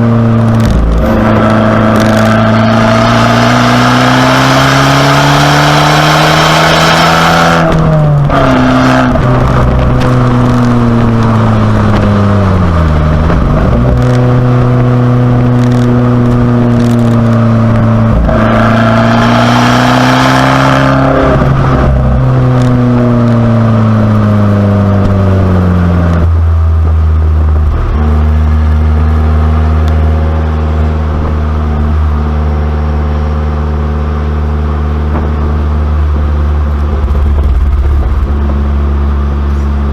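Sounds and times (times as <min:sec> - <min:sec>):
loud car engine revving: 0:00.0 - 0:39.9.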